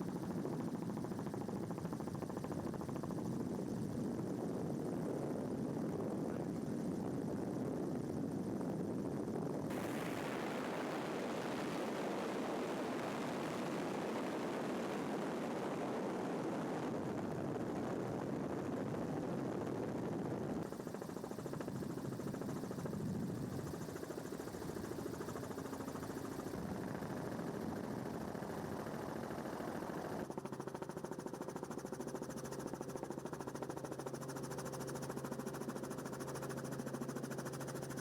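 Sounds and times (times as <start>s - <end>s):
helicopter rotor and engine drone: 0.0s - 38.0s.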